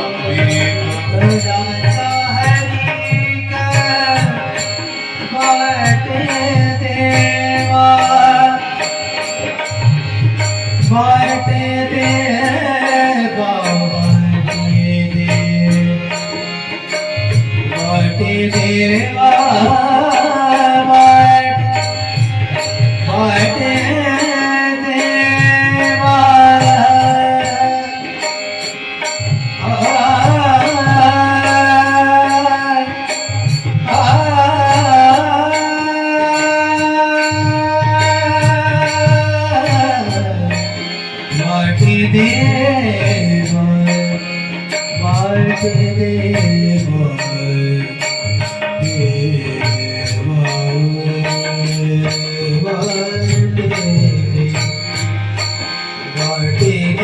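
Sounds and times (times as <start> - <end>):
held melody: 0.0 - 57.0
person singing: 0.0 - 57.0
tabla beat: 0.0 - 57.0
hand cymbals ringing: 0.1 - 57.0.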